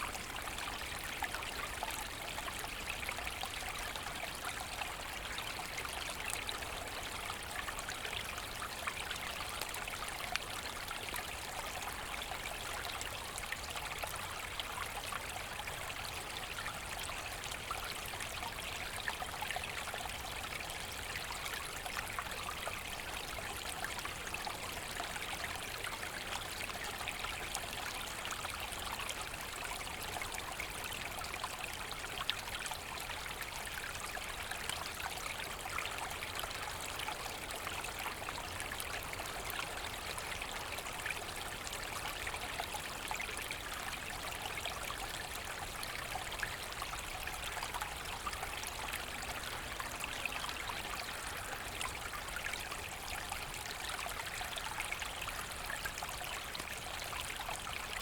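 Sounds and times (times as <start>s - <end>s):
brook babbling over stones: 0.0s - 58.0s.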